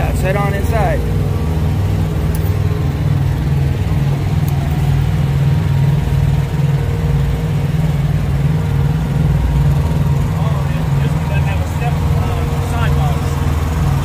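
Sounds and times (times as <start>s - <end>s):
engine drone with even pulse: 0.0s - 14.0s.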